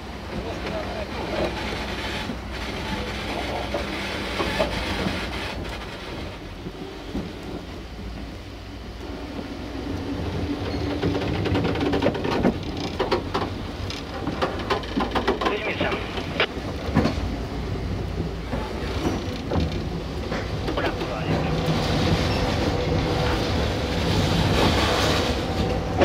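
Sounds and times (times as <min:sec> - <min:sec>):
locomotive rumbling: 0:00.0 - 0:26.0
wheels clicking over rail joints: 0:00.0 - 0:26.0.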